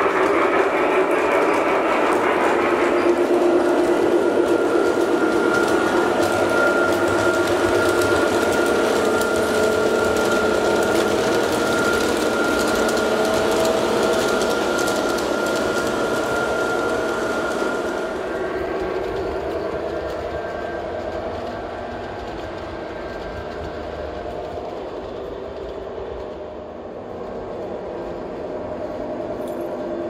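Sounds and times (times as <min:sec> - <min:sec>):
model train wheels rumbling: 0:00.0 - 0:30.0.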